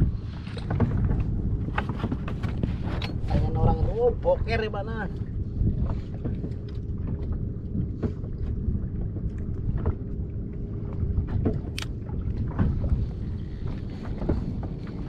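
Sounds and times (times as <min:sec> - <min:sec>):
boat motor rumble: 0:00.0 - 0:15.0
wind on microphone: 0:00.0 - 0:15.0.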